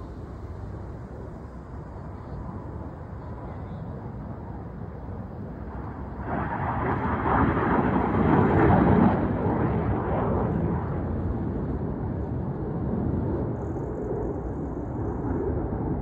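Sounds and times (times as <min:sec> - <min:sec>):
airplanes flying over: 0:00.0 - 0:16.0.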